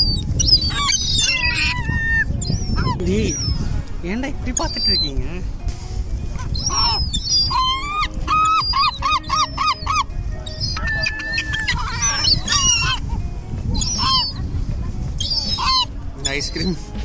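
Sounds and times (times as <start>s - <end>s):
gulls yelping calls: 0.0s - 3.7s, 4.4s - 5.2s, 6.4s - 16.7s.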